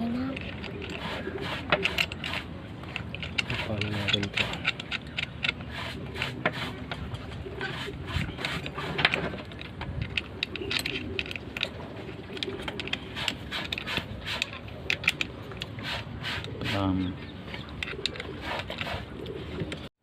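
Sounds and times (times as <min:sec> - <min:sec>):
metal parts clicking and scraping: 0:00.0 - 0:19.8.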